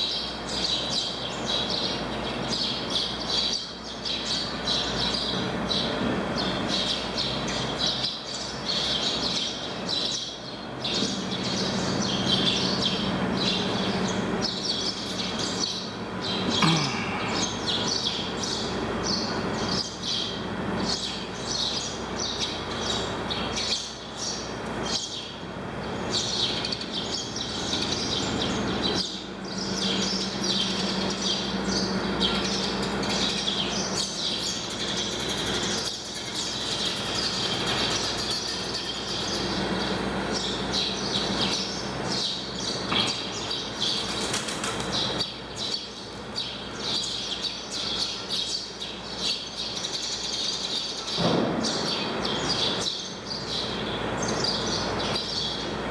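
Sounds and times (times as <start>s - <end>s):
low drone of ferry engines: 0.0s - 55.9s
small birds chirping: 0.0s - 55.9s.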